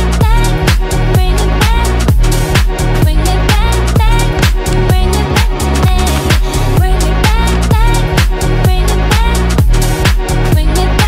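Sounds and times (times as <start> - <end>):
steady kick drum: 0.0 - 11.0.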